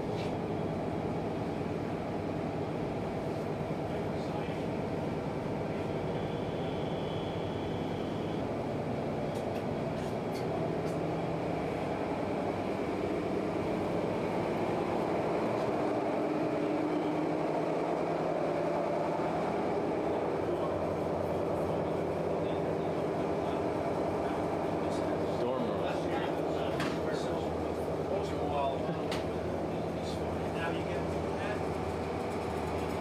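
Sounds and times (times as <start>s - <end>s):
boat engines droning: 0.0s - 33.0s.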